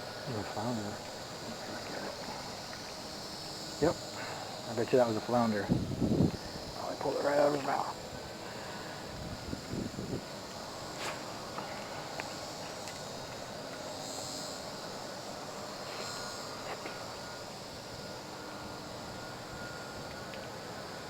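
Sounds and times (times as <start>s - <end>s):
even outdoor hiss: 0.0s - 21.0s
high continuous buzz: 0.0s - 21.0s.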